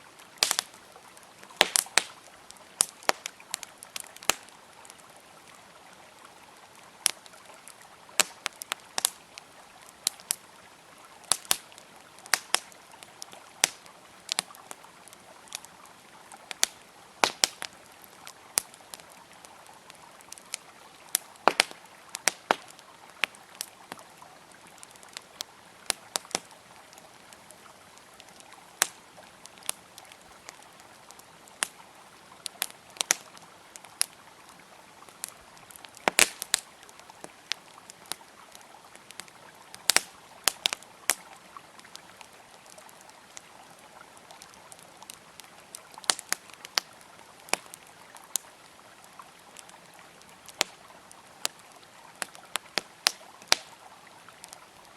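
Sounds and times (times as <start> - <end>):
campfire crackling and popping: 0.0 - 54.9
river flowing: 0.0 - 54.9.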